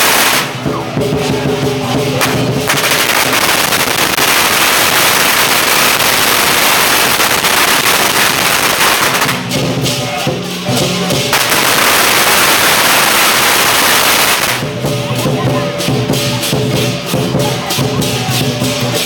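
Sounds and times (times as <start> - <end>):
firecrackers crackling: 0.0 - 19.0
lion dance music: 0.0 - 19.0.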